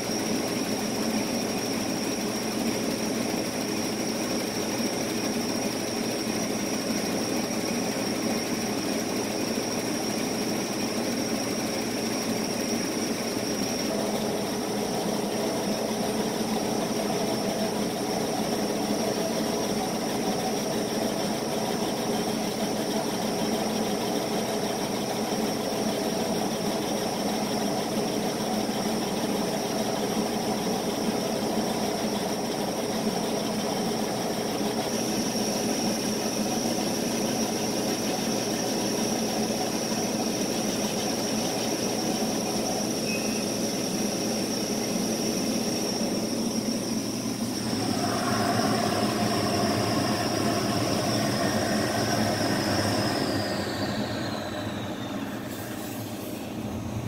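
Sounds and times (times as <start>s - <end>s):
high steady whine: 0.0s - 57.0s
laser engraver whirring: 0.0s - 57.0s.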